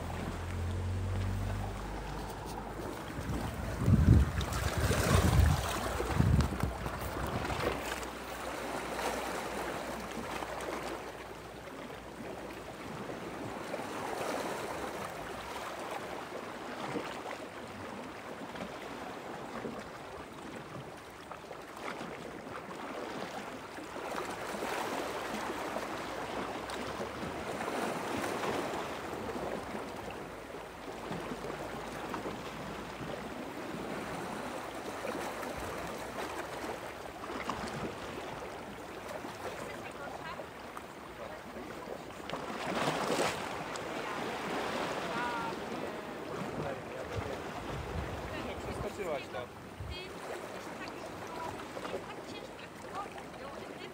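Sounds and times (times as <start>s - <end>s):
small waves lapping at shore: 0.0s - 53.9s.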